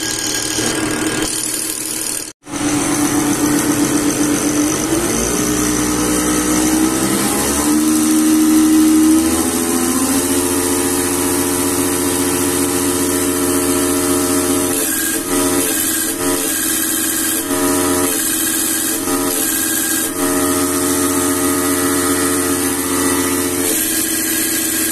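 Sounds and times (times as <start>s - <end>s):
pump test bench whining: 0.0s - 24.9s.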